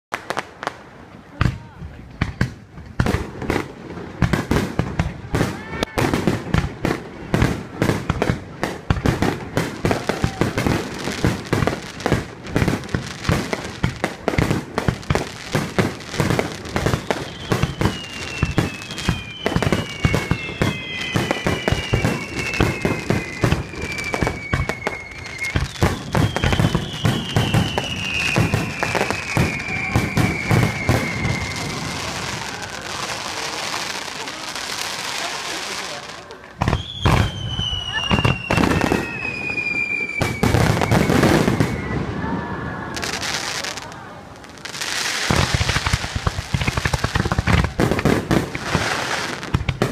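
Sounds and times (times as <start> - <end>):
fireworks bangs: 0.1 - 49.9
descending fireworks whistles: 3.0 - 49.9.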